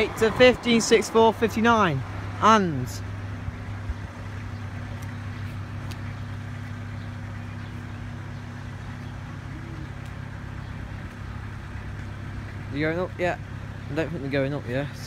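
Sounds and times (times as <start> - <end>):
train diesel engines droning: 0.0 - 15.0.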